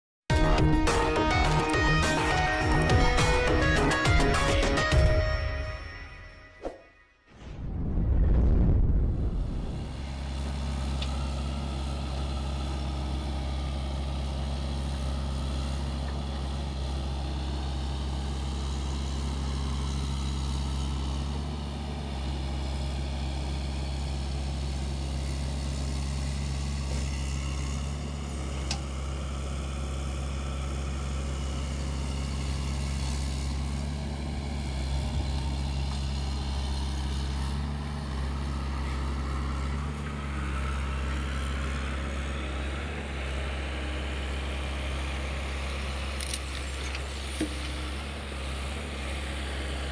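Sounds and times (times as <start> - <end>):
excavator diesel engine running: 0.3 - 5.6, 9.0 - 49.9.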